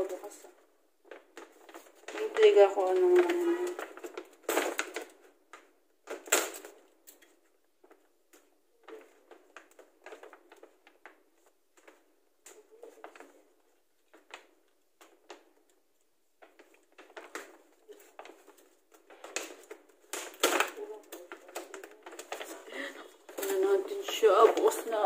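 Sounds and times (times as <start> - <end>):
paper gift bag rustling: 0.0 - 25.0.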